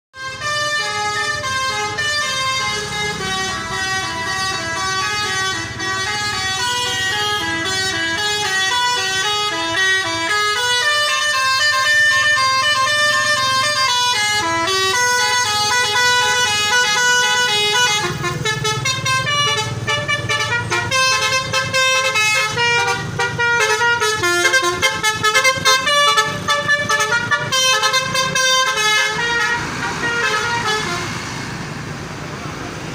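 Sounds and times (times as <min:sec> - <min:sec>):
musical air horns melody: 0:00.2 - 0:31.2.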